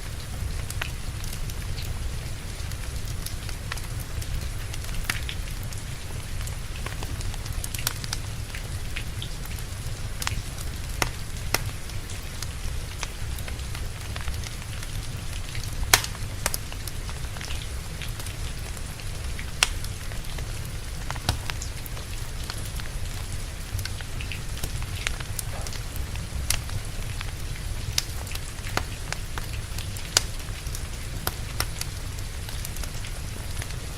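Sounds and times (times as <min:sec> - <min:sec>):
steady rain: 0:00.0 - 0:33.9
wood fire crackling and popping: 0:00.0 - 0:33.9.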